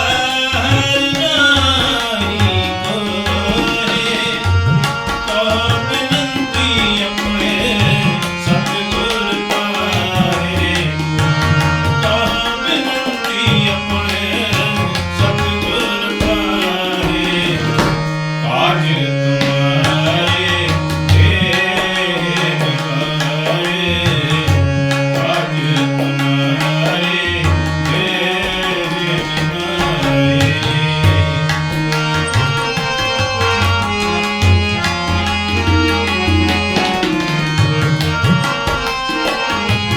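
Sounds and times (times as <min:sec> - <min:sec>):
sustained harmonium melody: 0:00.0 - 0:39.9
tabla playing a steady rhythm: 0:00.0 - 0:39.9.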